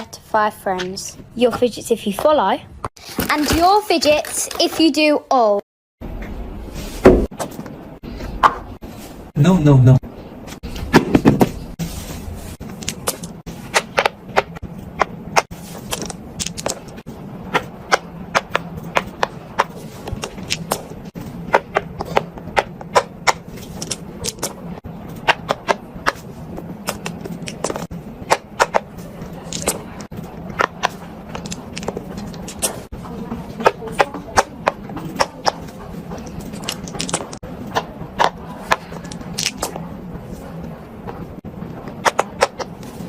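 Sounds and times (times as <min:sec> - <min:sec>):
steady low hum: 0:06.0 - 0:43.0.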